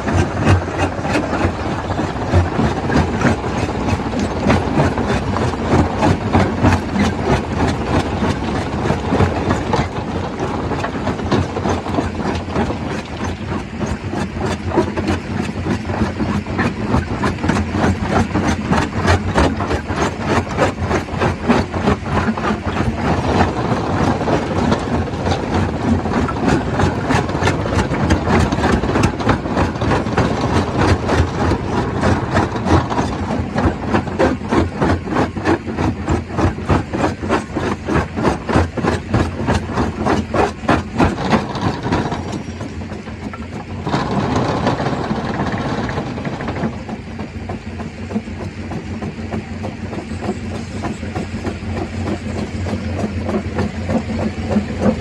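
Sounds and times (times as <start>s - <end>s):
stone crusher crushing rock: 0.0s - 55.0s.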